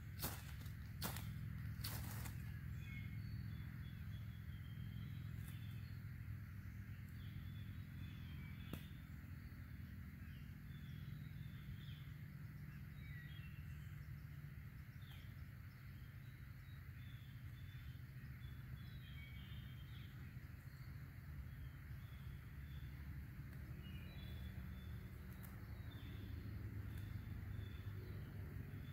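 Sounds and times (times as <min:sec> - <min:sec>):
birds chirping: 0:00.0 - 0:28.9
steady low rumble: 0:00.0 - 0:28.9.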